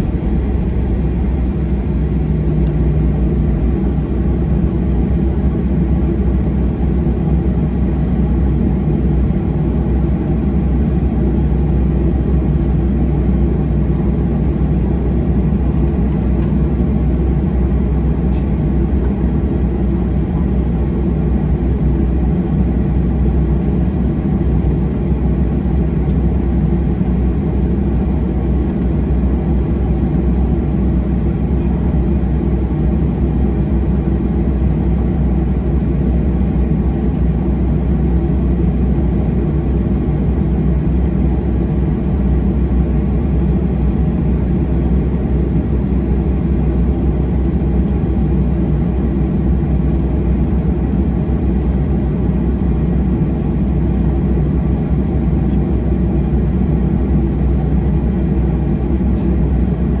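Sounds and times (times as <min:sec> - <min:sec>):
jet engine drone in cabin: 0:00.0 - 1:00.0.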